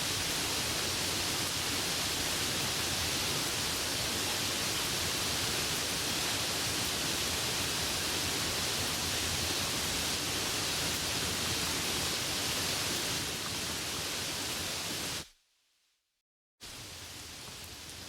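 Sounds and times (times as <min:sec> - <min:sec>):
steady rain hiss: 0:00.0 - 0:15.3, 0:16.6 - 0:18.0.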